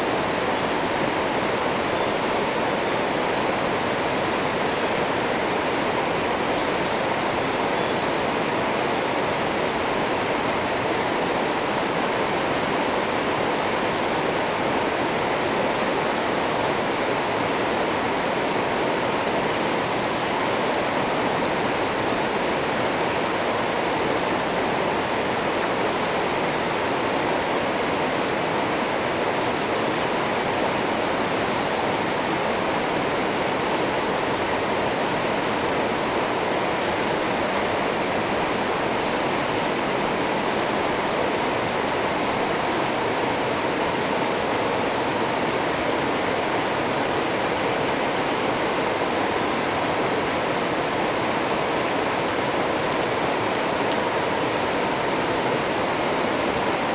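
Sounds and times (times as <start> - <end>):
river rapids rushing over rocks: 0.0 - 56.9.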